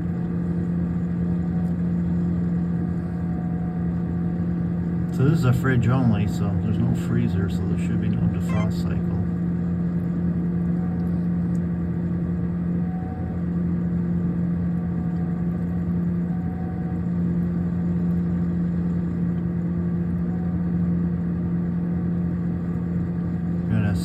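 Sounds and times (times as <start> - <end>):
refrigerator compressor hum: 0.0 - 24.0.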